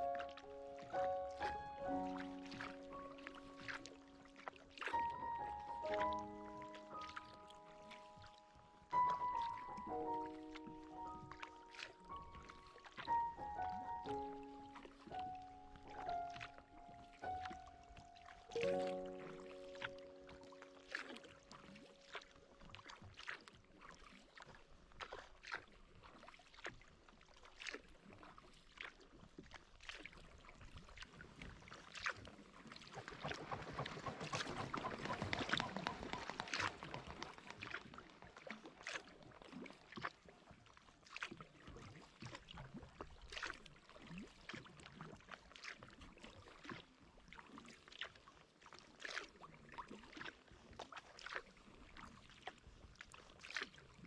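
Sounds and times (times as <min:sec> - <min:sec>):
kayak paddle splashes: 0:00.0 - 0:54.0
swan running across water: 0:00.0 - 0:54.0.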